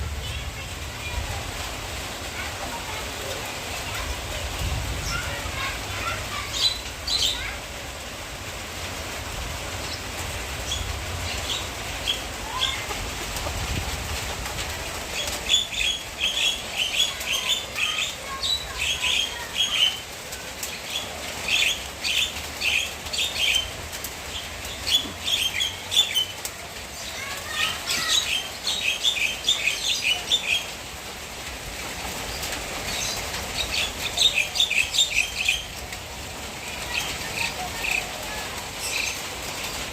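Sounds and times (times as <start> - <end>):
small birds chirping: 0.2 - 8.3, 9.3 - 39.9.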